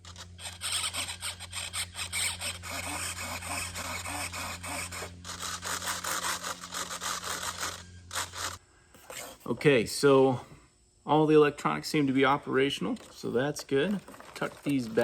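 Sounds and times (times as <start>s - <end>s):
servos whirring: 0.0s - 9.5s, 12.0s - 15.0s
low electrical hum: 0.0s - 15.0s.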